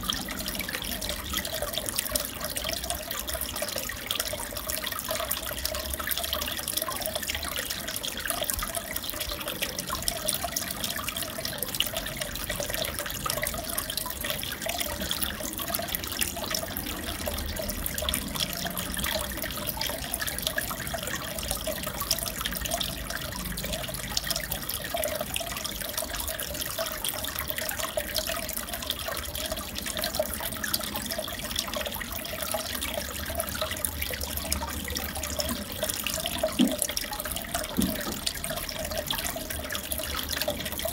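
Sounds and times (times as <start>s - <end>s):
aquarium water trickling and bubbling: 0.0s - 40.9s.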